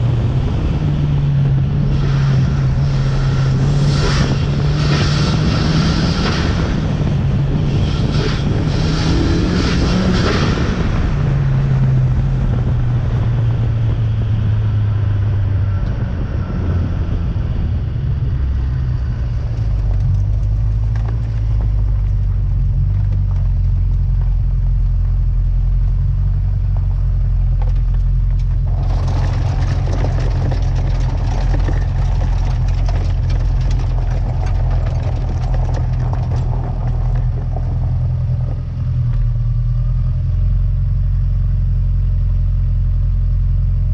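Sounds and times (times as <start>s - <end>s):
rough rushing noise with crackles: 0.0s - 39.6s
car engine running at low revs: 0.0s - 43.9s.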